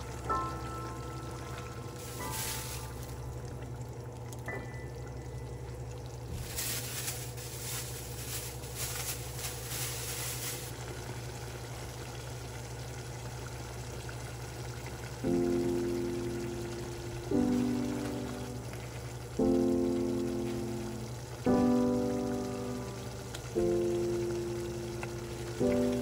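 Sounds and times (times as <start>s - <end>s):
piano music: 0.0s - 10.5s, 15.2s - 26.0s
sauce simmering in a pot: 0.0s - 26.0s.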